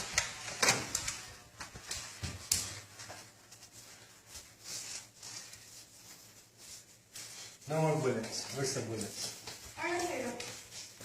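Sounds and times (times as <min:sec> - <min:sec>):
soft rustle: 0:00.0 - 0:11.0.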